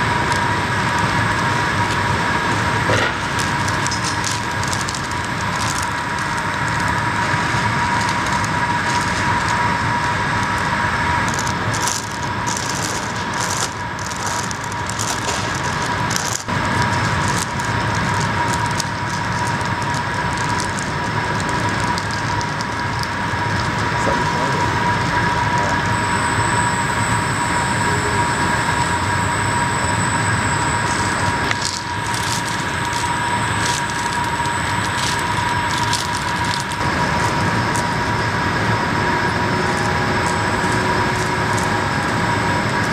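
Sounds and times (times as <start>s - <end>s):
light crackling: 0.0s - 24.0s, 24.6s - 42.9s
factory machinery noise: 0.0s - 42.9s
high-pitched whine: 0.0s - 42.9s.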